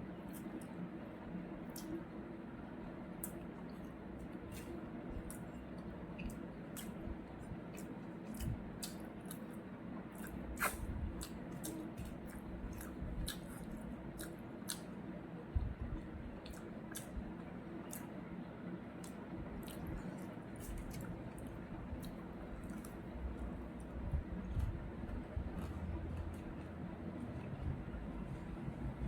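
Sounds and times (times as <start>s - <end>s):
chewing and eating sounds: 1.6s - 2.0s, 3.2s - 15.1s, 16.0s - 18.2s, 19.0s - 27.9s.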